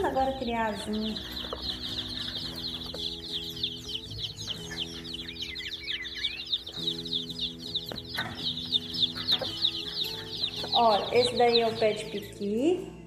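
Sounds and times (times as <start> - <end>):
chicks peeping: 0.0 - 12.7.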